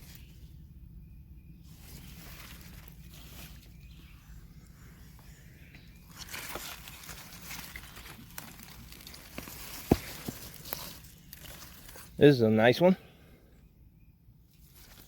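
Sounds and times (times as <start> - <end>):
leaves and soil rustling: 0.0 - 0.6, 1.3 - 13.0, 14.4 - 15.0.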